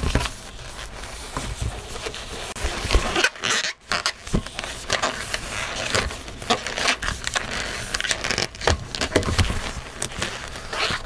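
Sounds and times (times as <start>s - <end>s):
rubber balloon rubbing and scraping: 0.0s - 11.0s.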